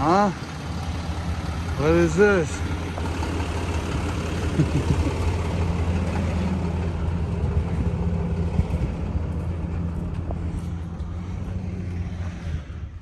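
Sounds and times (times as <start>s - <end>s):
truck engine idling: 0.0s - 12.2s.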